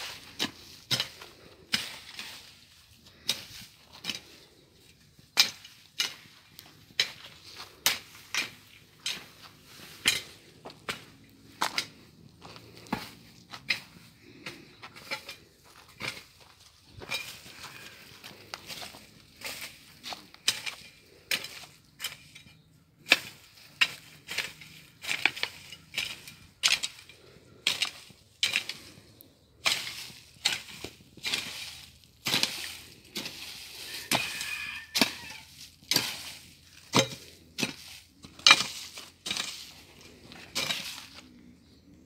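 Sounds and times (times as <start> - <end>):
hand tool chopping brush: 0.0 - 2.6, 5.4 - 16.4, 18.5 - 22.3, 23.0 - 28.8, 29.6 - 41.3.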